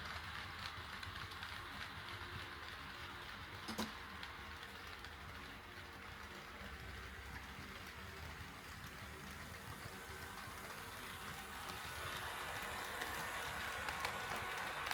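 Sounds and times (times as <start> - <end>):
model train running on track: 0.0 - 14.9.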